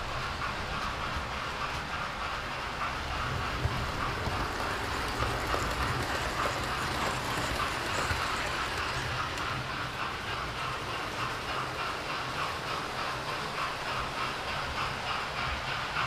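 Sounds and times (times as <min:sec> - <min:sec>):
model train motors whirring: 0:00.0 - 0:16.0
clicking from rails: 0:00.2 - 0:16.0.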